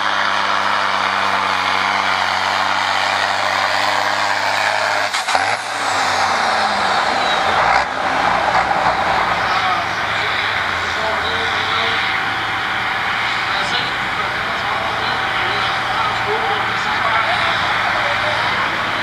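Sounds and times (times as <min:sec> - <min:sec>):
diesel tractor engine under load: 0:00.0 - 0:19.0.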